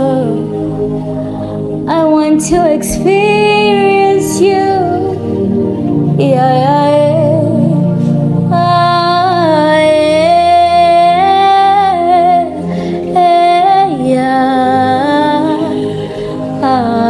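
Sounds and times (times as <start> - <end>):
woman singing wordless vowels: 0.0 - 0.8, 1.8 - 5.4, 6.0 - 17.0
soft instrumental backing: 0.0 - 17.0.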